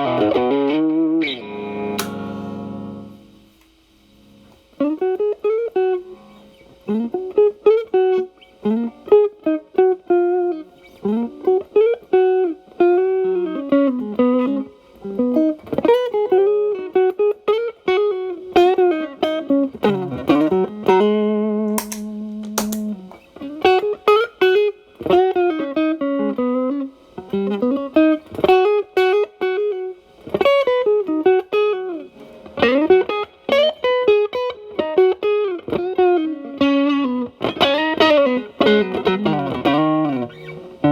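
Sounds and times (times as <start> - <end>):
electric guitar bluesy lead: 0.0 - 40.9.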